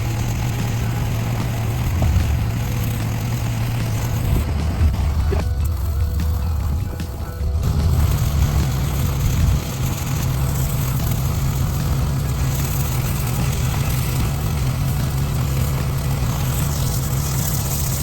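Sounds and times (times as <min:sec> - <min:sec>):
pressure washer engine hum: 0:00.0 - 0:18.0
water spray hiss: 0:00.0 - 0:18.0.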